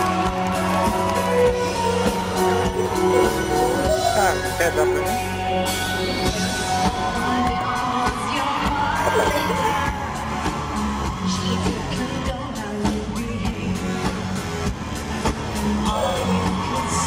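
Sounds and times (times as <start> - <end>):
pop music with singing: 0.0 - 17.0.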